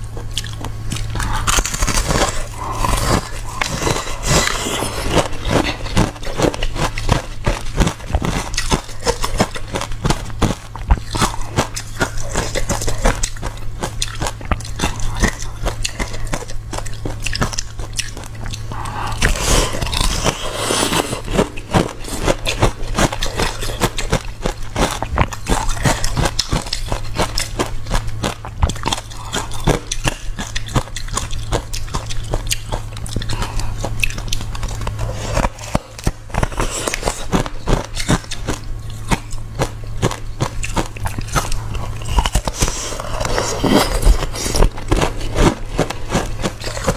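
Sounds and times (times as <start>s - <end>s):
low hum: 0.0s - 46.9s
person chewing crunchy ice: 0.0s - 46.9s.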